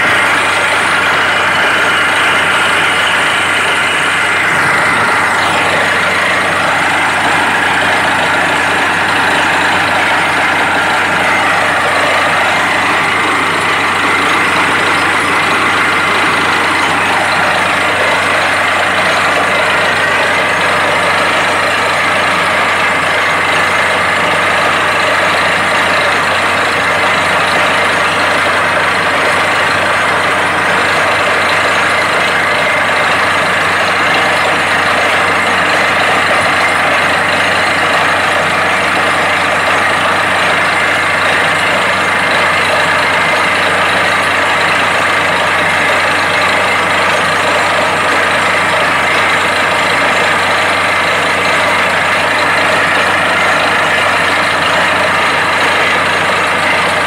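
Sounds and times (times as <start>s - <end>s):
drilling rig engine and compressor drone: 0.0s - 57.0s.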